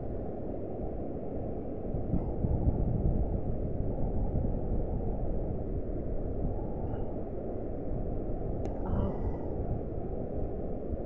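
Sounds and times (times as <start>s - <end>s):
wind buffeting microphone: 0.8s - 11.0s.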